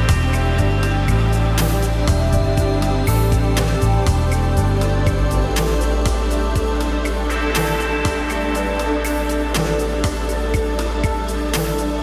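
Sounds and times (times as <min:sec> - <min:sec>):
background music with held chords: 0:00.0 - 0:12.0.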